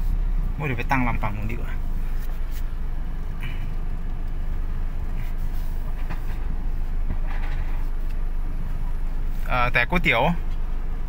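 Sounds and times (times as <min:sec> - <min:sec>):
car engine: 0:00.0 - 0:11.0
low steady rumble: 0:00.0 - 0:11.0.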